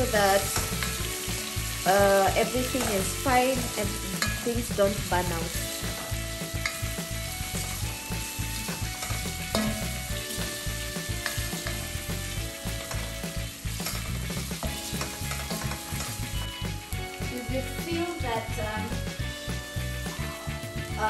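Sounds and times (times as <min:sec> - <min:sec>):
meat and onions sizzling in a pot: 0:00.0 - 0:21.0.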